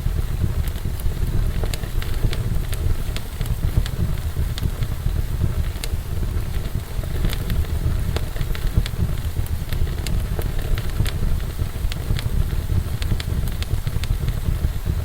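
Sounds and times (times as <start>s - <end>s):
fire burning in fireplace: 0.0s - 15.0s
sharp crackles popping: 0.0s - 15.0s.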